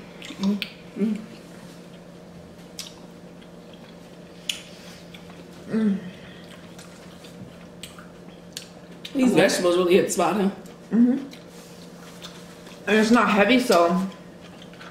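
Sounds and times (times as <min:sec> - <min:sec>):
hummed mm sounds: 0:00.0 - 0:09.5, 0:10.5 - 0:14.9
people chewing: 0:00.2 - 0:09.3, 0:10.6 - 0:12.9, 0:13.7 - 0:14.9.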